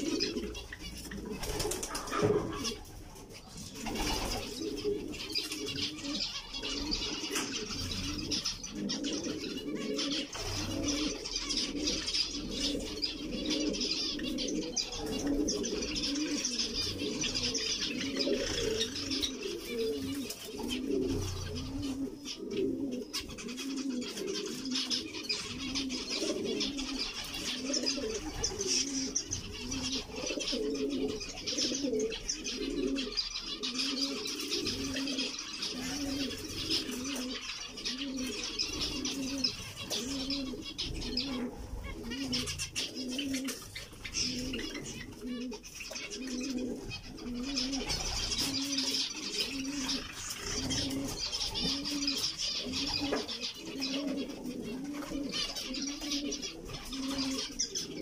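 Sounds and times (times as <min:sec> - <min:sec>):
dove cooing: 0:00.0 - 0:58.0
finches chattering and chirping: 0:00.0 - 0:58.0.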